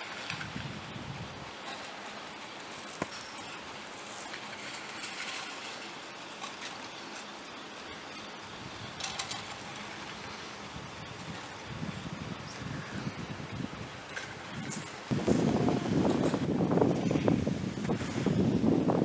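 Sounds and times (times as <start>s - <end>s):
lift rope hissing: 0.0s - 19.0s.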